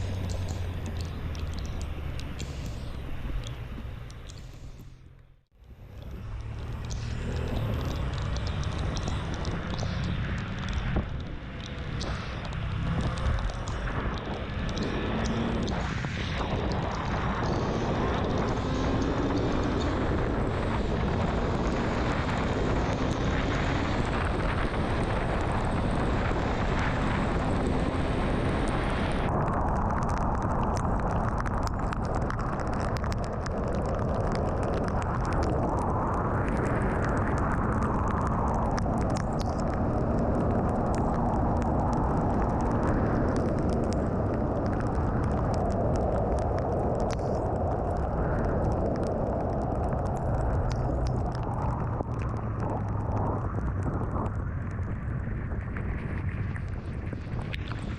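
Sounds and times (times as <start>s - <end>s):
wind and road noise: 0.0s - 57.9s.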